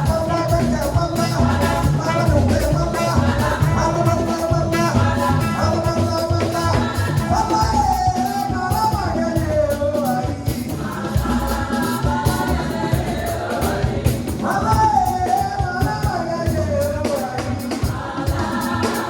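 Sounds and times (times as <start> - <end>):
drums and bass: 0.0 - 19.0
gospel singing: 0.0 - 19.0.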